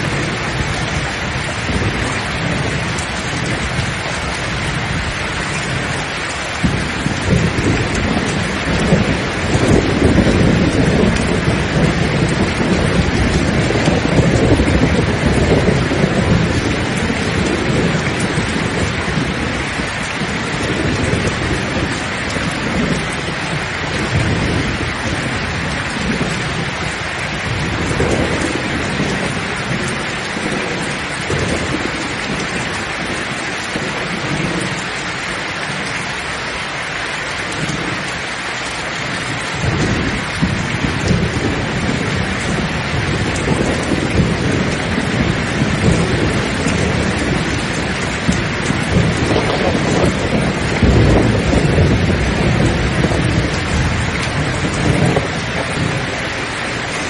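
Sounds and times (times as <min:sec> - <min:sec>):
heavy rain: 0:00.0 - 0:57.0
thunder rumbling: 0:00.0 - 0:57.0.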